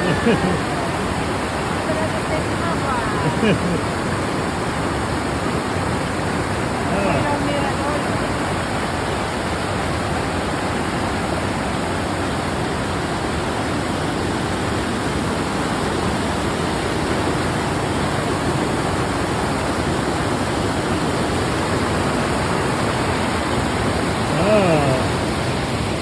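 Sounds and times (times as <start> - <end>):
white-water rapids rushing: 0.0 - 26.0.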